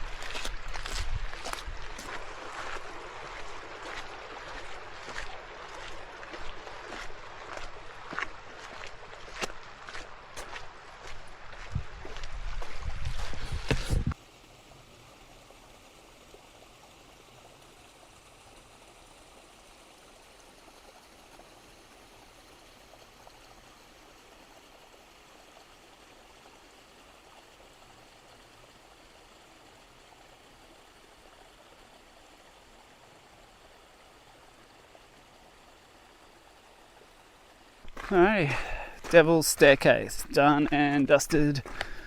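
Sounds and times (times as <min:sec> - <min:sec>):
stream running: 0:00.0 - 0:42.0.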